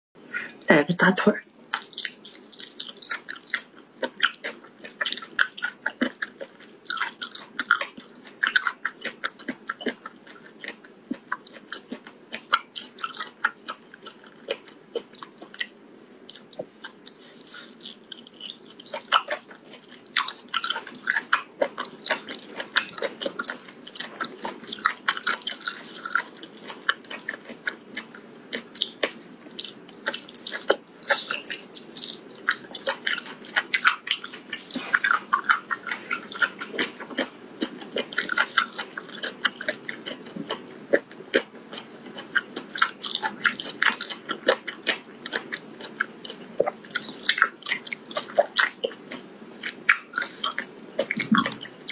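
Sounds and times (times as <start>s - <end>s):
mouth clicks and smacks: 1.5s - 51.9s
chewing and biting: 1.6s - 51.9s.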